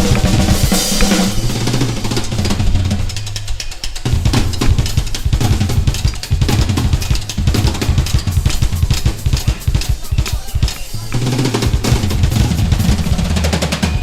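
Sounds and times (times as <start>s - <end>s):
fast busy drum kit: 0.0s - 14.0s.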